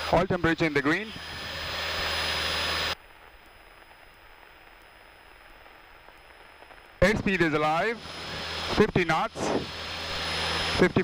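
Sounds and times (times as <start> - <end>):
aircraft engine and propeller: 0.0 - 11.0.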